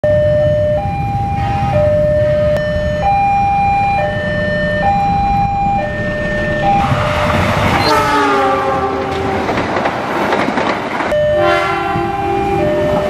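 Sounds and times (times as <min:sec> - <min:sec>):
two-tone warning siren: 0:00.0 - 0:09.3, 0:11.1 - 0:13.0
passing train rumble: 0:00.1 - 0:13.0.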